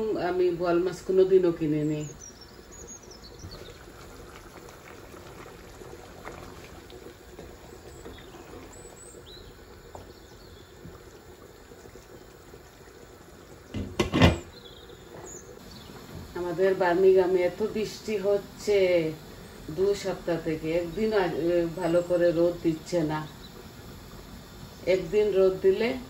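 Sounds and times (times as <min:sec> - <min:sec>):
curry bubbling in a pot: 0:00.0 - 0:26.0.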